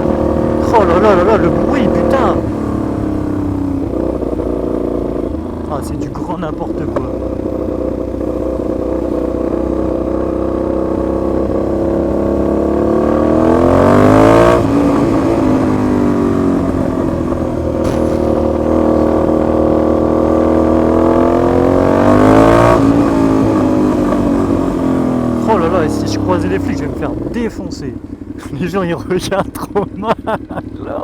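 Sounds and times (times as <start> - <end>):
motorcycle engine revving loudly: 0.0 - 28.4.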